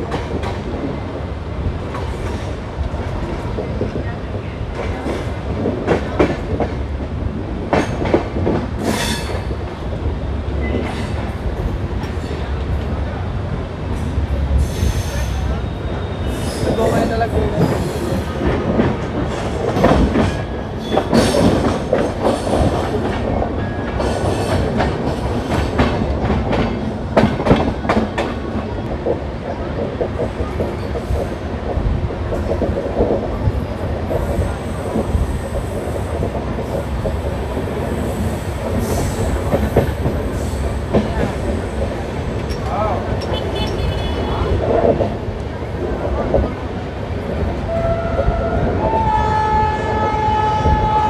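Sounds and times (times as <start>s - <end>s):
train coaches rumbling: 0.0s - 51.0s.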